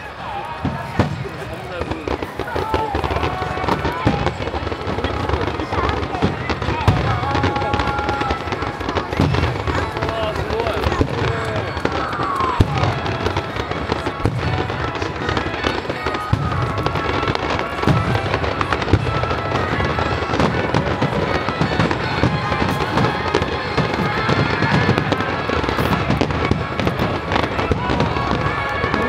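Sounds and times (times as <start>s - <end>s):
fireworks booming and crackling: 0.0s - 29.0s.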